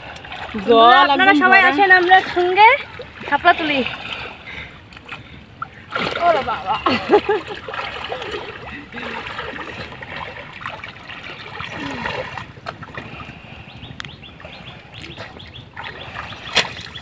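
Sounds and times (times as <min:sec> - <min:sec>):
water sloshing around waders: 0:00.0 - 0:17.0.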